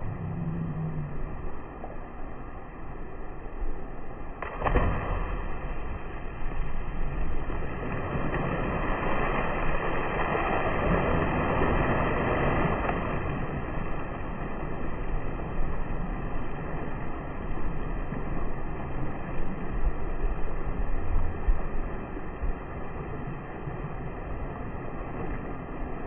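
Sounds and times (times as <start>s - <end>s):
water splashing: 4.1s - 26.0s.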